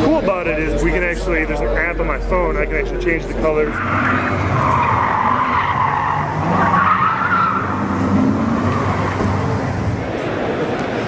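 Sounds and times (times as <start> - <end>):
car engine revving: 0.0 - 11.0
car tyres squealing: 0.8 - 10.8.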